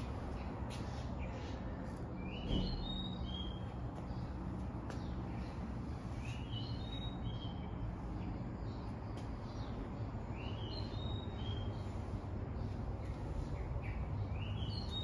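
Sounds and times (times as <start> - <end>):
bird singing: 0.0 - 15.0.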